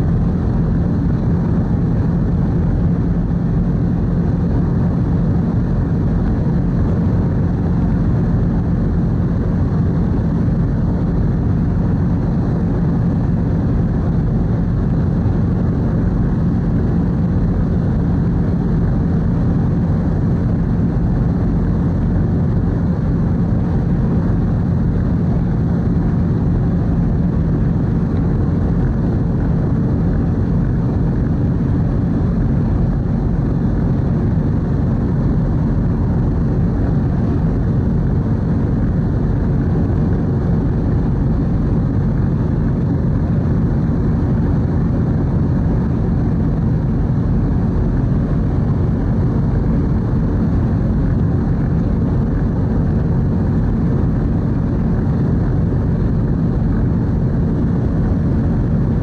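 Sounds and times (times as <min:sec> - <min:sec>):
faint constant hum: 0:00.0 - 0:59.0
ship engine drone: 0:00.0 - 0:59.0.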